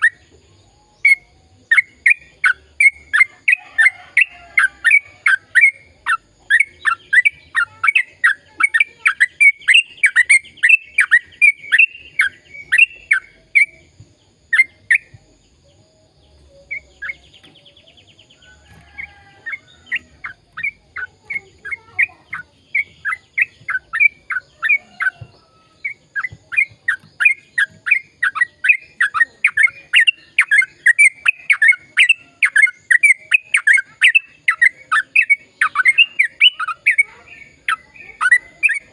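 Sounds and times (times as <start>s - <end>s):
bulbul chirping song: 0.0s - 38.9s.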